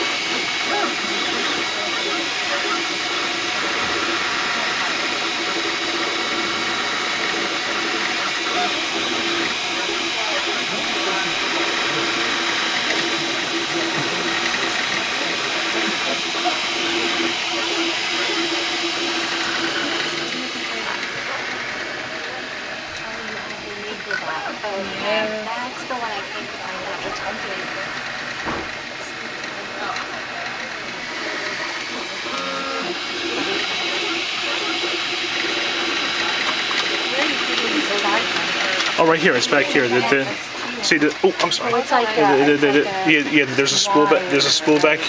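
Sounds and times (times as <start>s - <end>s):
printer fan hiss: 0.0s - 45.0s
stepper motors whining: 0.0s - 45.0s.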